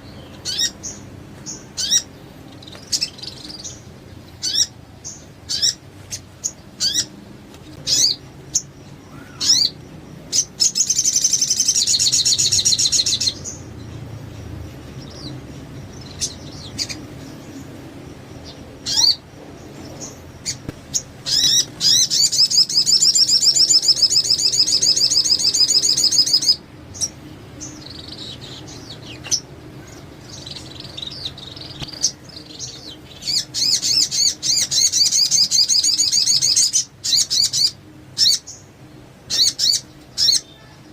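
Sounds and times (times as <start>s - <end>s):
sunbird singing trills: 0.0s - 40.9s.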